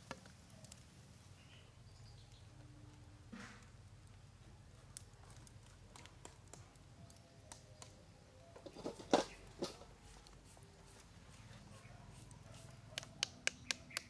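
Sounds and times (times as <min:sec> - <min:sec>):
crackles and pops of grilling: 0:00.0 - 0:14.0.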